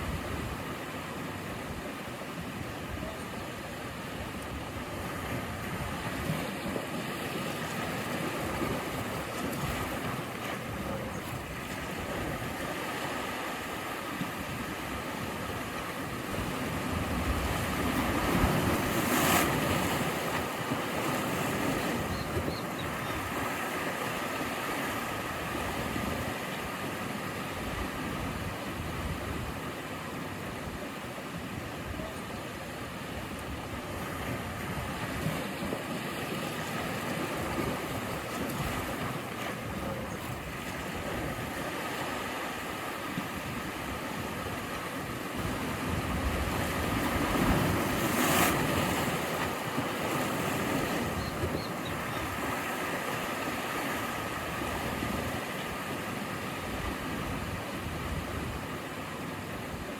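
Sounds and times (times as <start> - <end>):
waves washing on shore: 0.0 - 59.9.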